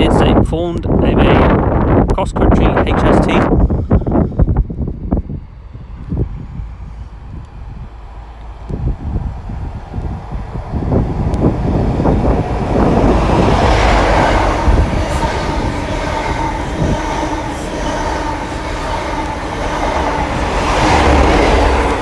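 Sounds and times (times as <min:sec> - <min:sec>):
diesel train engines passing: 0:00.0 - 0:22.0
train wheels on rails: 0:04.1 - 0:22.0.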